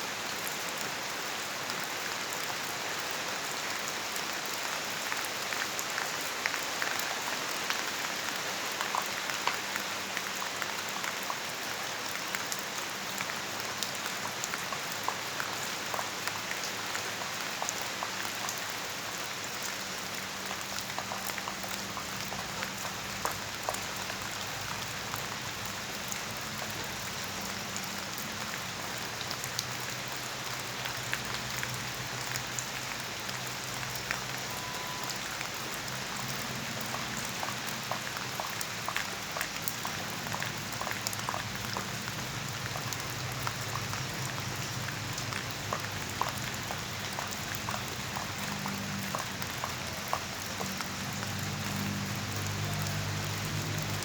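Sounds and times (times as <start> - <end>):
rain drops on hard surface: 0.0 - 54.0
rain hiss: 0.0 - 54.0.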